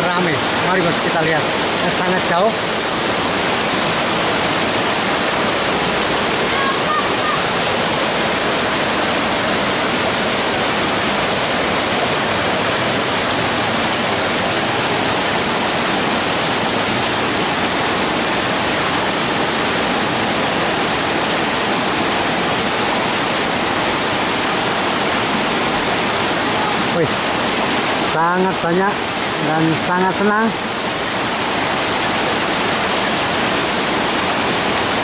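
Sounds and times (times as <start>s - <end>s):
river rapids rushing over boulders: 0.0s - 35.0s.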